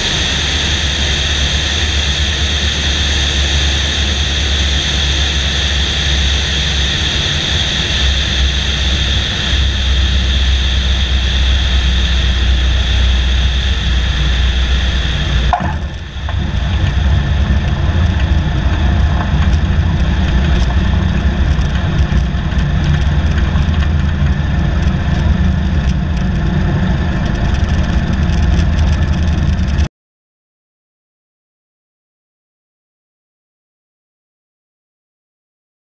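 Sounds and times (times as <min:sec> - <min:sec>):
small plane engine and propeller: 0:00.0 - 0:29.9.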